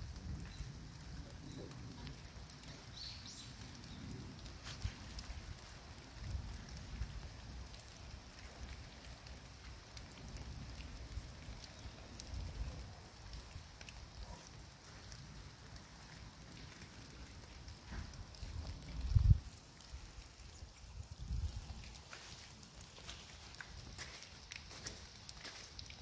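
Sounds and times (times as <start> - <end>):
light rain pattering: 0.0 - 26.0.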